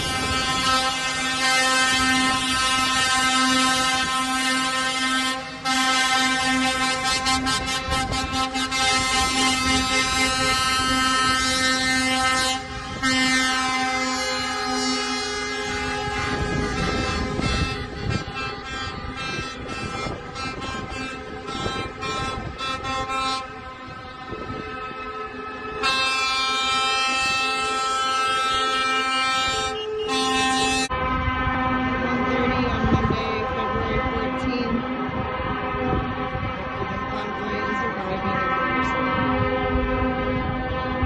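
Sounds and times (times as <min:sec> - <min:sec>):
passing lorries and cars: 0:00.0 - 0:41.0
truck air horn blasts: 0:00.0 - 0:41.0.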